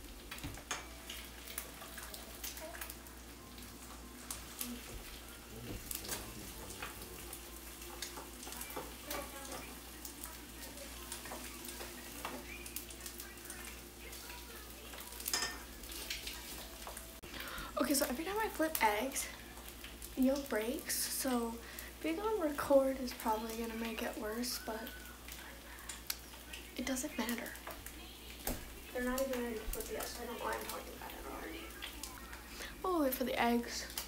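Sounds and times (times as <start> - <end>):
eggs sizzling in a pan: 0.0 - 34.0.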